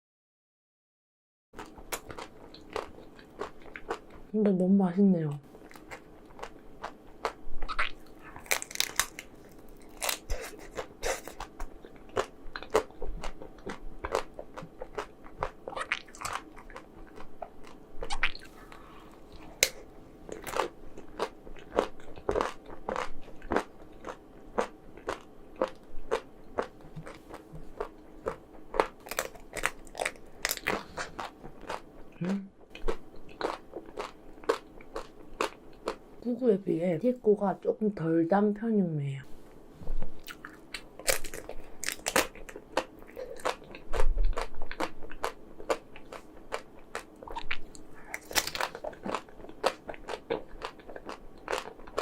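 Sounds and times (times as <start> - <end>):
crunching and chewing ice cream: 1.6 - 4.3, 5.6 - 36.0, 40.2 - 52.0.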